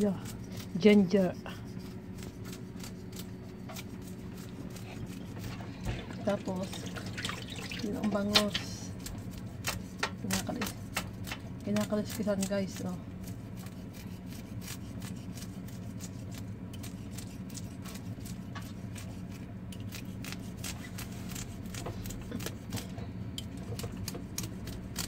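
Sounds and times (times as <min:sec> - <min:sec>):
knife scraping fish scales: 0:00.0 - 0:06.8, 0:07.8 - 0:25.0.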